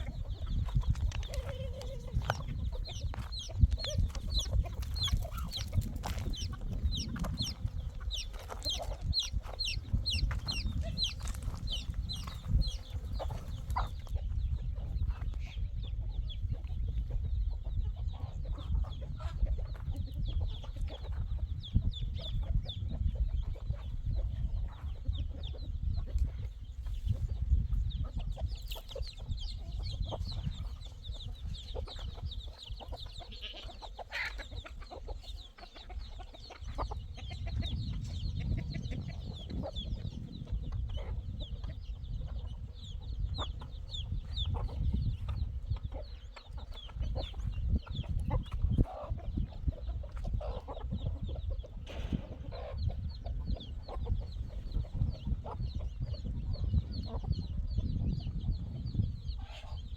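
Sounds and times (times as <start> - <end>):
birds chirping: 0.0 - 16.6, 17.3 - 59.9.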